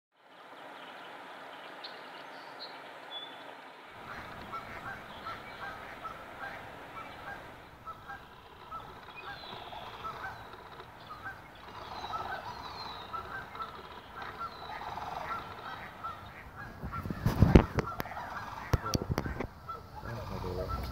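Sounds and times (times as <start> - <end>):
geese honking: 4.0 - 20.9.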